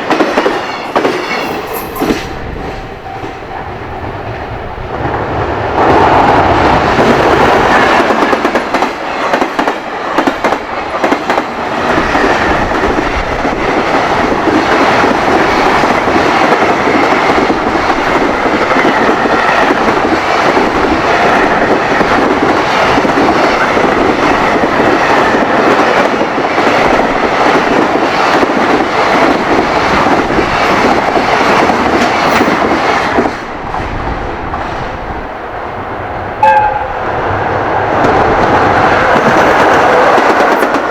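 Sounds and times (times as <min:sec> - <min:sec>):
freight train passing: 0:00.0 - 0:40.9.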